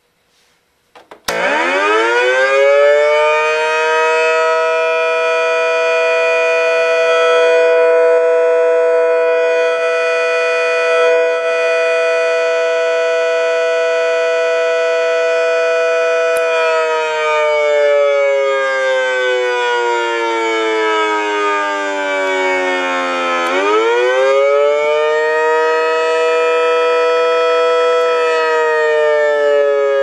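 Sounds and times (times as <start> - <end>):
electronic siren tone: 1.3 - 30.0.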